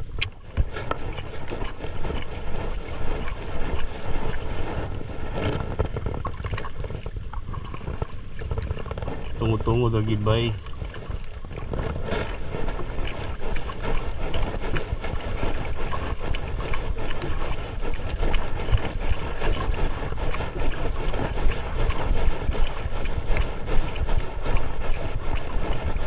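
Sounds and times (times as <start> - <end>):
waves splashing against boat hull: 0.0 - 26.0
wind buffeting microphone: 0.0 - 26.0.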